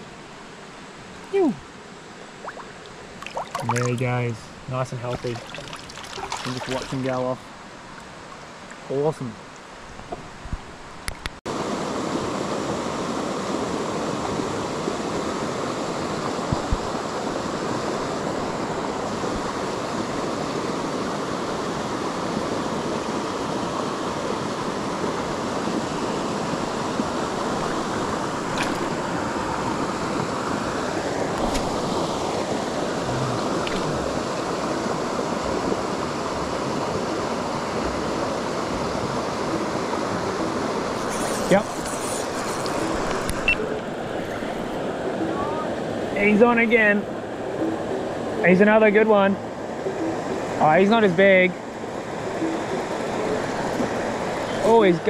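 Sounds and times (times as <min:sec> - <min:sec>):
creek running over rapids: 0:00.0 - 0:09.9, 0:11.5 - 0:55.0.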